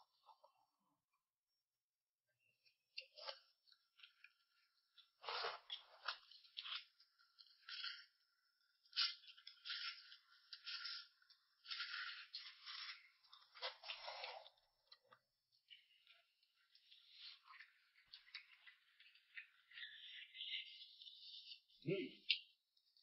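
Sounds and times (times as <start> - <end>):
person chewing crunchy food: 2.9 - 23.0.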